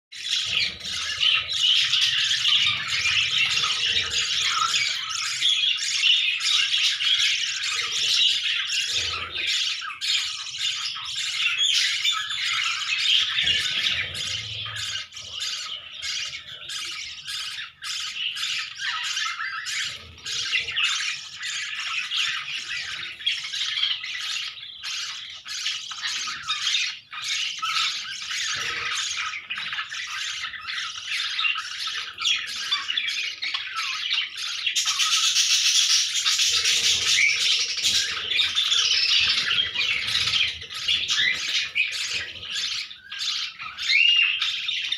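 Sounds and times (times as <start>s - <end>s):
budgerigars chirping: 0.2s - 44.9s.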